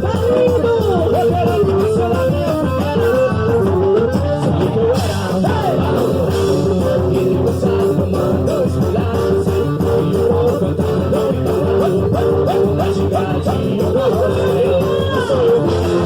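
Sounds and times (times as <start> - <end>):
person singing: 0.0 - 16.0
plucked guitar with steady beat: 0.0 - 16.0.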